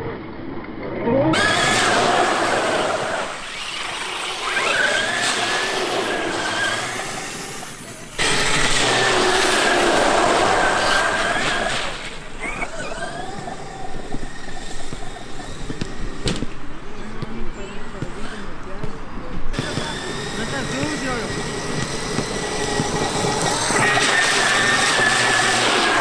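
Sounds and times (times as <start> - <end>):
electric motor whining: 1.0 - 18.7, 19.5 - 26.0.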